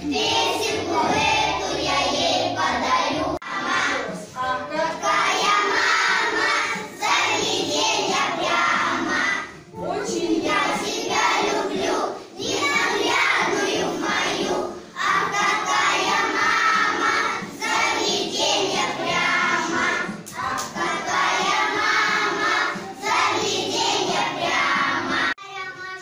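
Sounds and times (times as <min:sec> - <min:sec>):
children singing in unison: 0:00.0 - 0:25.4.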